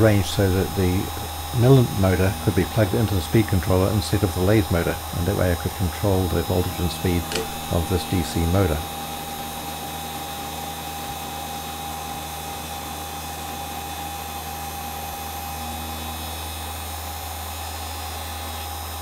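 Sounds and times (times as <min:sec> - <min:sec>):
electric motor humming: 0:00.0 - 0:19.0
end mill whining on metal: 0:00.0 - 0:19.0.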